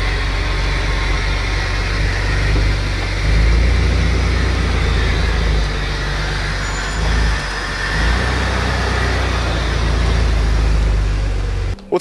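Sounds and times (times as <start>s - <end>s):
car engine deep exhaust: 0.0s - 11.8s.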